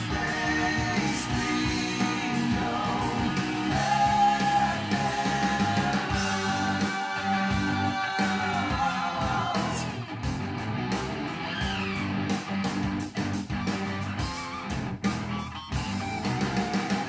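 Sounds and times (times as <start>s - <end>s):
metal song with singing and guitars: 0.0s - 17.0s.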